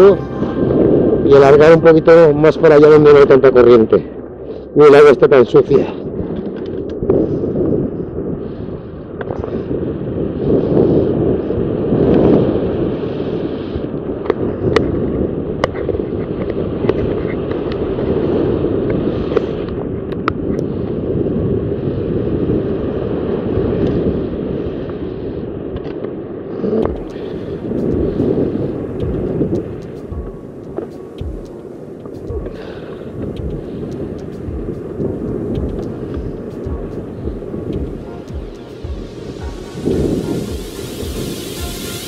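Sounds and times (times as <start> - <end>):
wind on microphone: 0.0 - 42.0.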